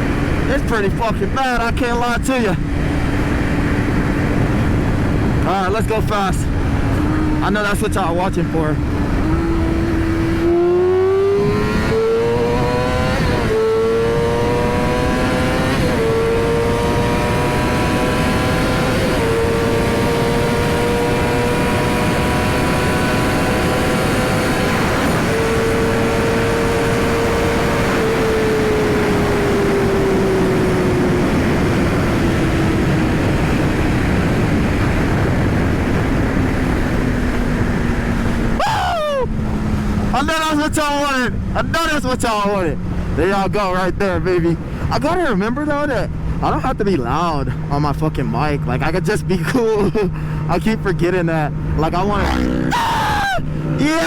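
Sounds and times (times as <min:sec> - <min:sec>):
wind rush: 0:00.0 - 0:54.0
motorcycle engine upshifting: 0:02.6 - 0:38.6, 0:39.2 - 0:40.5, 0:44.6 - 0:54.0.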